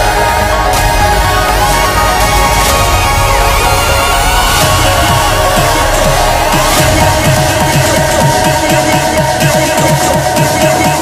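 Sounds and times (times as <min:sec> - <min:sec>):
electronic music: 0:00.0 - 0:11.0.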